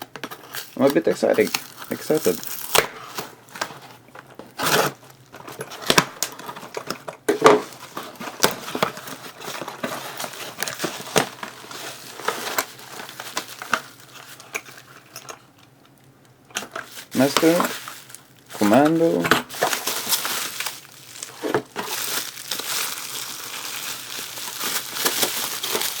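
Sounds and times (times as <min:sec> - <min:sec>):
packaging rustling and crinkling: 0:00.0 - 0:15.6, 0:16.5 - 0:26.0.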